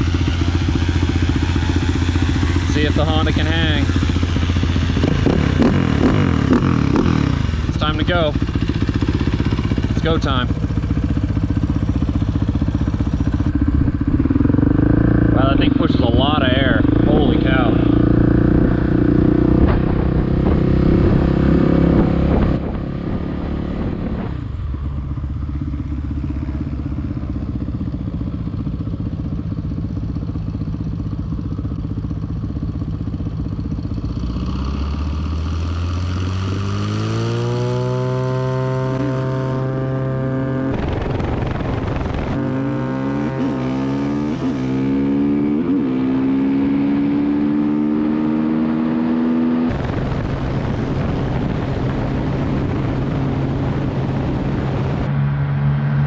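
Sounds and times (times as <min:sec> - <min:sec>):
quad engine revving: 0:00.0 - 0:24.3, 0:33.9 - 0:55.1.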